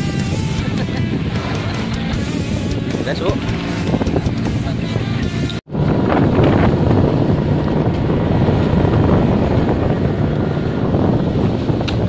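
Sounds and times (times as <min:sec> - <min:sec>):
boat engine running: 0:00.0 - 0:12.0
wind noise on microphone: 0:00.0 - 0:12.0.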